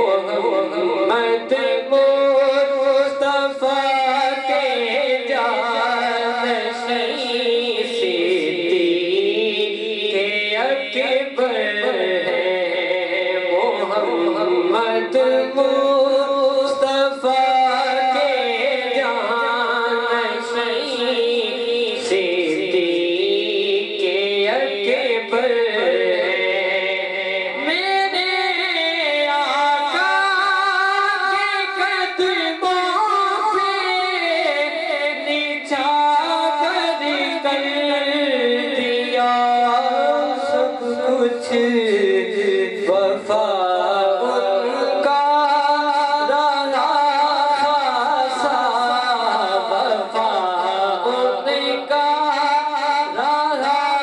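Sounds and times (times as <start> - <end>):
man singing into microphone: 0.0 - 54.0.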